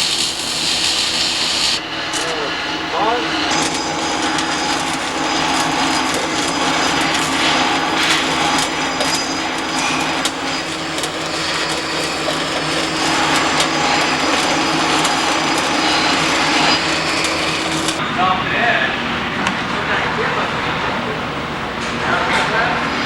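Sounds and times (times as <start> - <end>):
loud machine noise with hum: 0.0 - 23.0.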